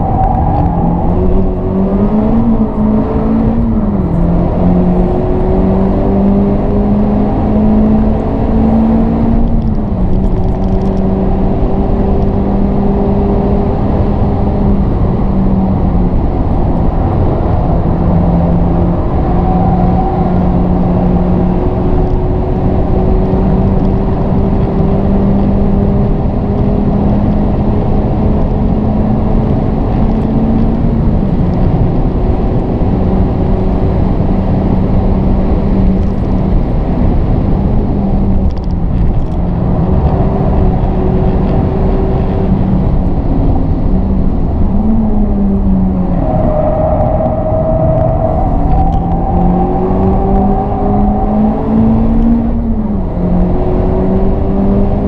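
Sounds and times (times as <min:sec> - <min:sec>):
car engine accelerating hard: 0:00.0 - 0:55.0
road noise: 0:00.0 - 0:55.0.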